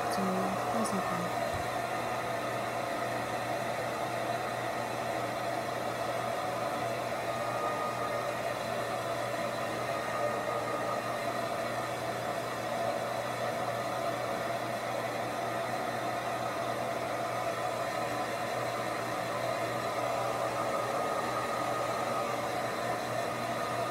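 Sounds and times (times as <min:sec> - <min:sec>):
hair dryer running: 0:00.0 - 0:23.9.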